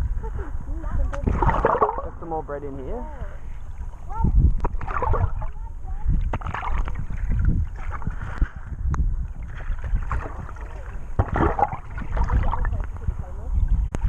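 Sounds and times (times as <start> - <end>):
wind on microphone: 0.0 - 14.0
water sloshing and splashing: 1.0 - 14.0.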